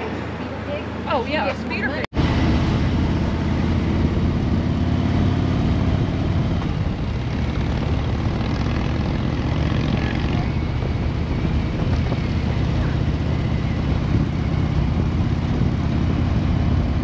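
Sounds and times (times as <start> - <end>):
road noise: 0.0 - 17.0
motorcycle engine running: 2.2 - 17.0.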